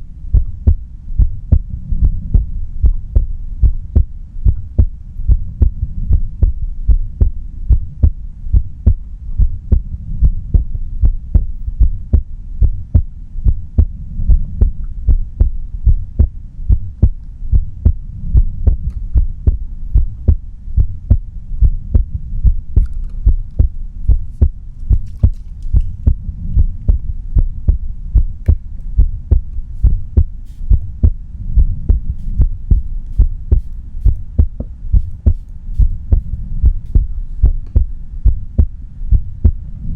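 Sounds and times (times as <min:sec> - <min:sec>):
heartbeat thuds: 0:00.3 - 0:39.7.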